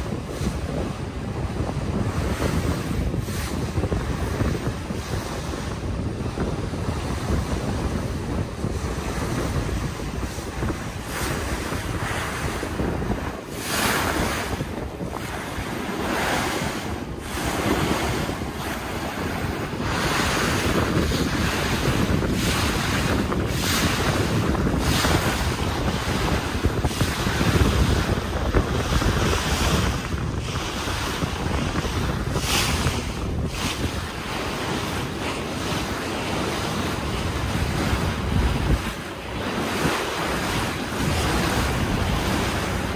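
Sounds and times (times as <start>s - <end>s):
rushing water: 0.0s - 42.9s
wind gusting across microphone: 0.0s - 42.9s.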